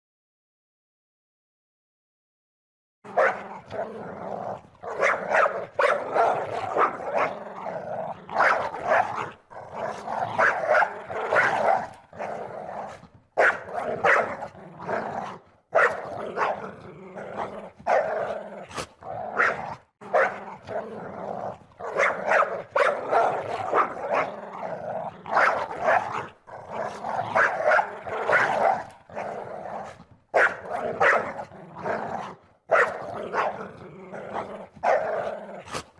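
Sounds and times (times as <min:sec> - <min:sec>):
dog barking loudly: 0:03.1 - 0:04.0, 0:04.6 - 0:20.9, 0:21.5 - 0:35.8
dog growling: 0:03.1 - 0:35.9.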